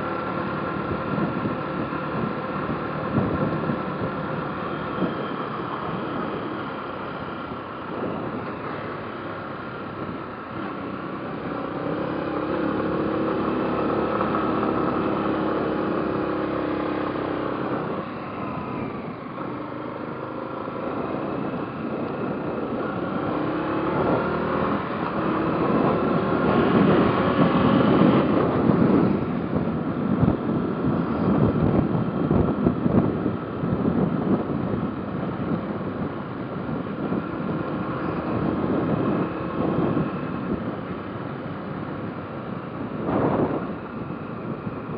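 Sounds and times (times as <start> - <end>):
wind on microphone: 0.0 - 44.9.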